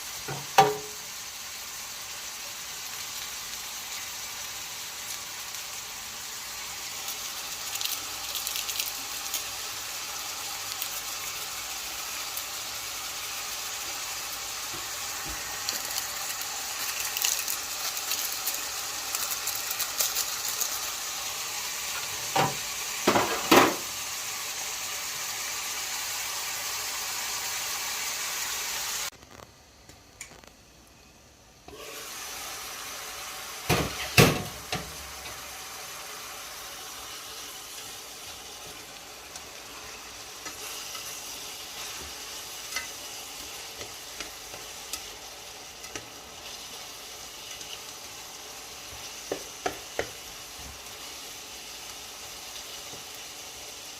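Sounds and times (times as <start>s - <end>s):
food sizzling in hot oil: 0.0s - 29.2s, 31.6s - 53.9s.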